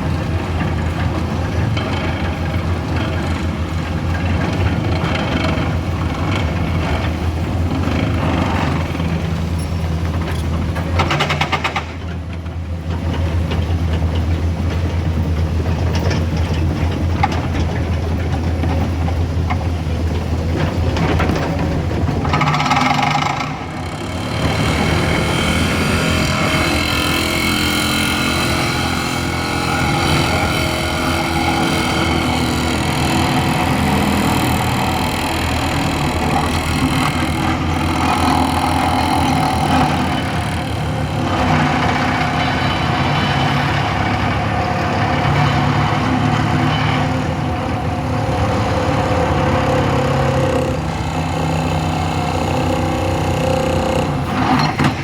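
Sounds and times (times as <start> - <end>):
heavy vehicle engine running: 0.0 - 55.0.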